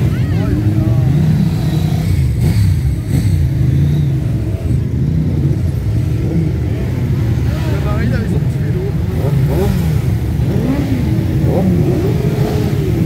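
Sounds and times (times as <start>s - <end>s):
many motorcycle engines running: 0.0s - 13.0s.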